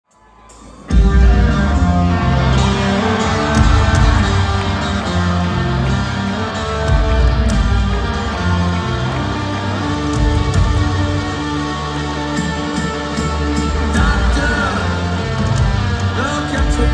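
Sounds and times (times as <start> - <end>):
electric guitar: 0.8 - 16.9
bass guitar: 0.9 - 16.9.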